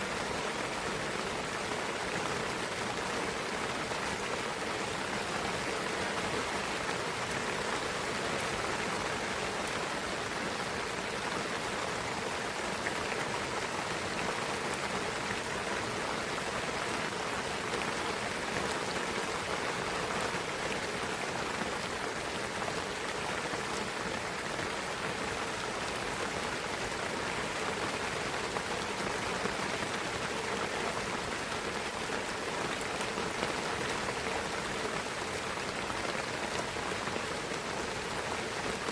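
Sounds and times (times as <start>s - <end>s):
rain pattering on trees: 0.0s - 38.9s.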